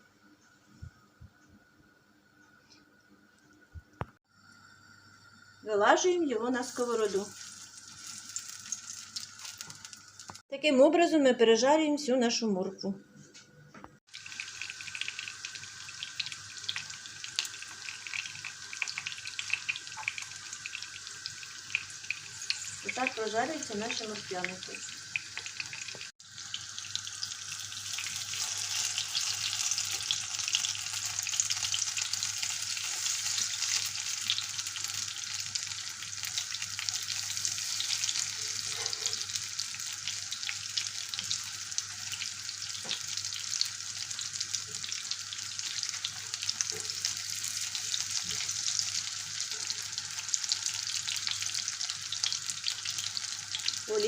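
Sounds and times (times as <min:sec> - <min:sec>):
fritters sizzling in hot oil: 0:05.6 - 0:10.4, 0:14.1 - 0:54.0.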